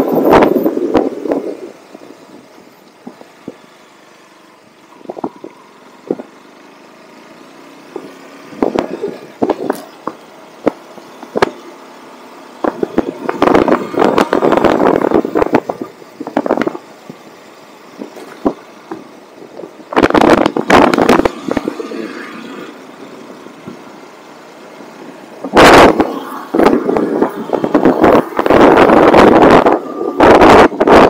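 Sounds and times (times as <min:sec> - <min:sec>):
wind buffeting microphone: 0:00.0 - 0:03.7, 0:04.9 - 0:06.4, 0:07.9 - 0:11.8, 0:12.5 - 0:31.0
motorcycle riding noise: 0:00.0 - 0:31.0.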